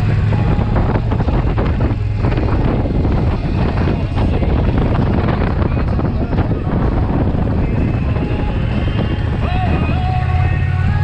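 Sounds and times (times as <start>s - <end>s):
motorcycle engine low drone: 0.0s - 11.0s
wind buffeting microphone: 0.0s - 11.0s.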